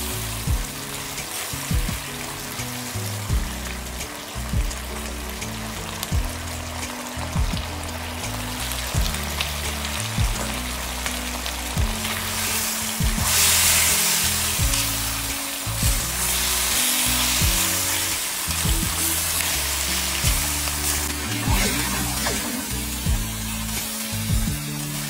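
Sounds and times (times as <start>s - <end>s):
background music with bass line: 0.0s - 25.0s
sauce sizzling in a wok: 0.0s - 25.0s.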